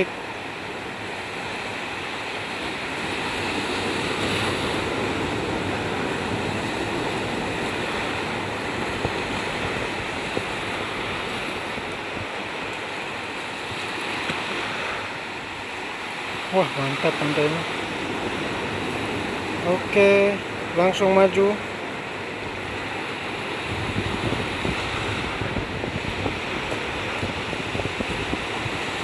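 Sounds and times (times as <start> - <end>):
surf washing onto beach: 0.0 - 29.0.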